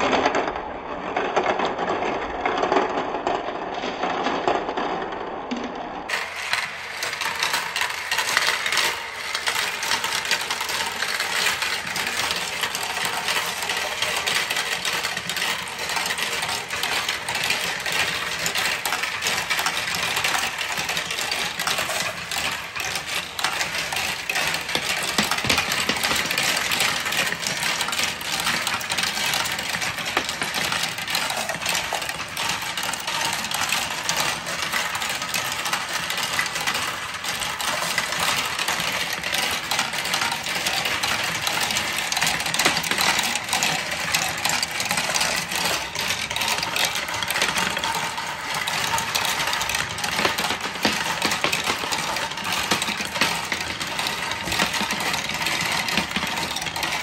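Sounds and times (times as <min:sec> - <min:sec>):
marbles rolling and clattering: 0:00.0 - 0:57.0.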